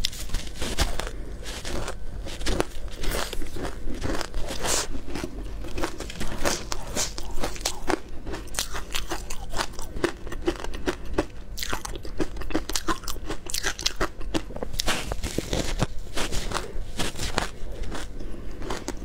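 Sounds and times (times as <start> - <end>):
ice crunching in mouth: 0.0 - 19.0.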